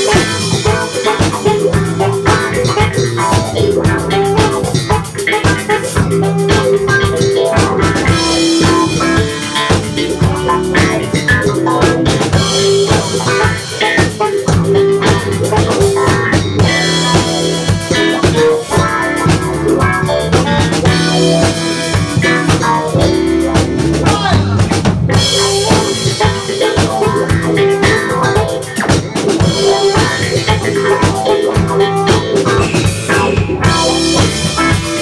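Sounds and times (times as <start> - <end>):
drum kit beat: 0.0 - 35.0
guitar: 0.0 - 35.0.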